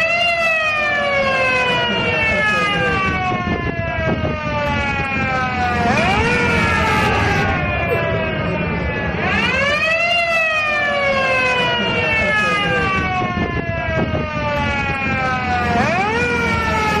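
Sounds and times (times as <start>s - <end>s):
ambulance siren wailing: 0.0s - 17.0s.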